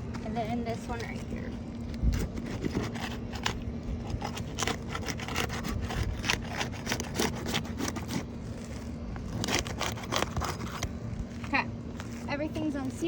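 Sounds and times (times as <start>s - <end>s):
roofing tool scraping shingles: 0.2s - 11.0s.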